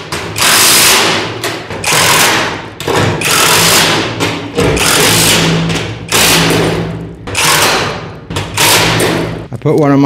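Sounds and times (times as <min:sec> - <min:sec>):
power driver driving screws into steel: 0:00.1 - 0:09.4.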